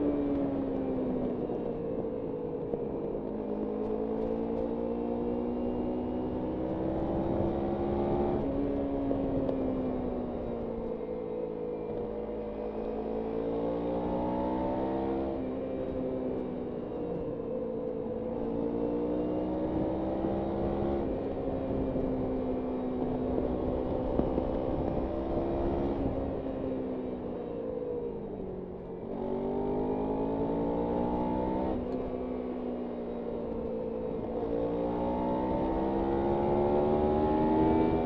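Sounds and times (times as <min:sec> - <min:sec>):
motorcycle engine shifting gears: 0:00.0 - 0:38.0.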